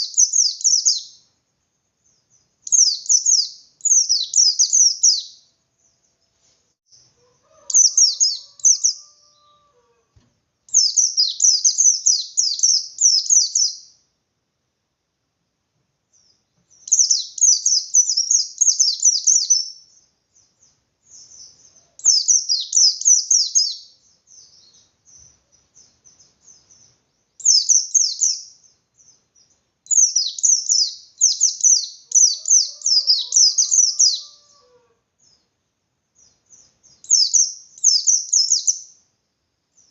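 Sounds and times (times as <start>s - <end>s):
bird twittering song: 0.0s - 9.6s, 10.7s - 14.0s, 16.1s - 39.0s.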